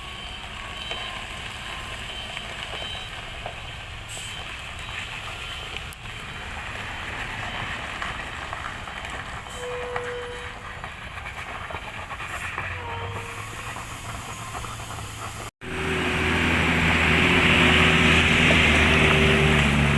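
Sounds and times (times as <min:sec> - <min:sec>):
truck diesel engine running: 0:03.3 - 0:19.9.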